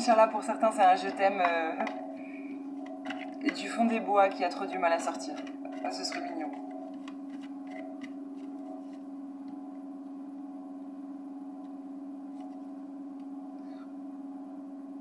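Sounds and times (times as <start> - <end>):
low drone tone: 0.0 - 15.0.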